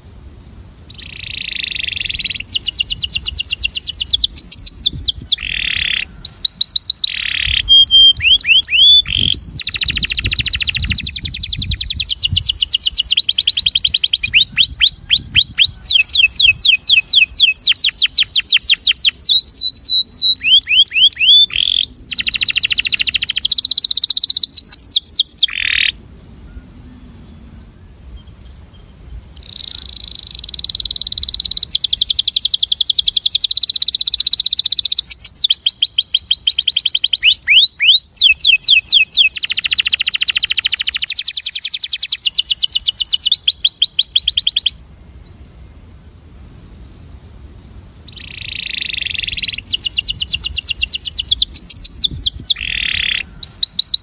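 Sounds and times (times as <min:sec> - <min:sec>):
canary singing trills: 0:00.9 - 0:26.8, 0:29.3 - 0:44.8, 0:48.0 - 0:54.0.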